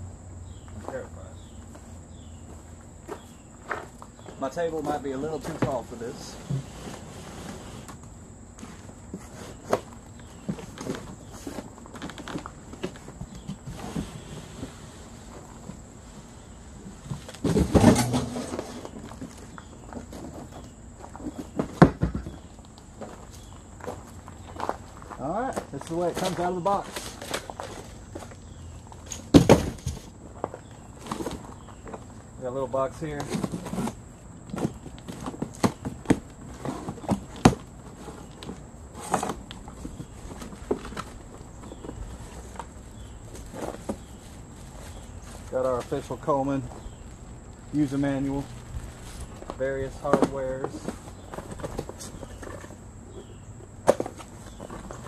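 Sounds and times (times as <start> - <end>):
cardboard scraping and rustling: 4.8 - 8.0, 8.6 - 32.0, 32.9 - 47.2, 47.8 - 55.0.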